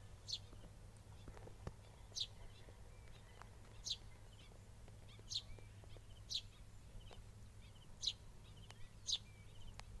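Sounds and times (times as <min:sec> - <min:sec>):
high-pitched bird calls: 0:00.2 - 0:10.0.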